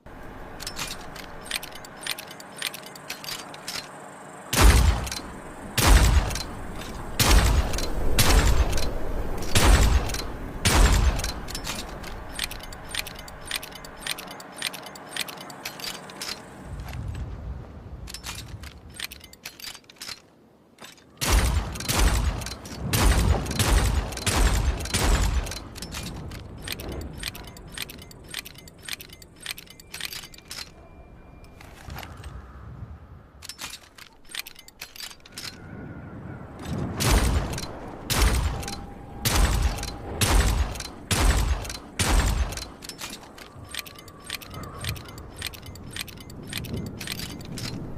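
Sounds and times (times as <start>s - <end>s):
metallic clicking and rattling: 0.2s - 17.2s, 18.0s - 32.3s, 33.4s - 35.6s, 36.6s - 47.9s.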